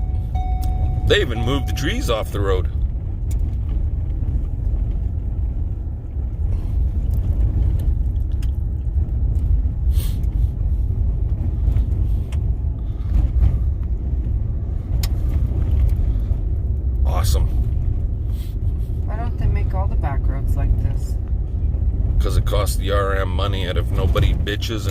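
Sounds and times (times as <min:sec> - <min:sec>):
vehicle rumbling on gravel road: 0:00.0 - 0:24.9.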